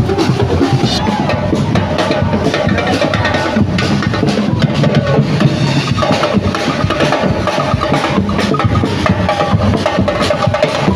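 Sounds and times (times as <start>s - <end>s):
music with drum beat and percussion: 0.0s - 10.9s.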